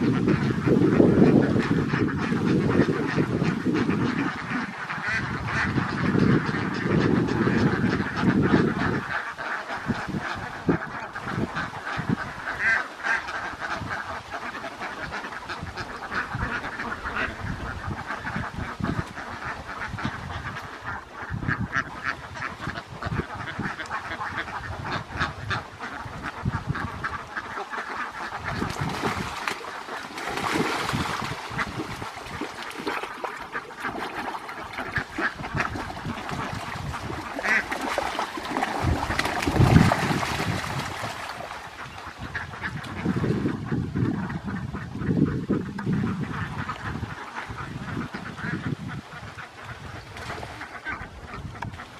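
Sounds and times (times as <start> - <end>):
flock of ducks quacking: 0.0 - 51.9.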